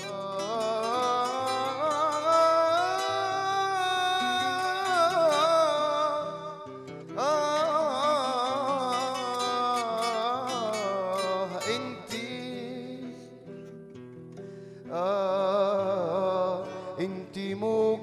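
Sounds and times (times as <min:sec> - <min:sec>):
acoustic guitars plucked and strummed: 0:00.0 - 0:18.0.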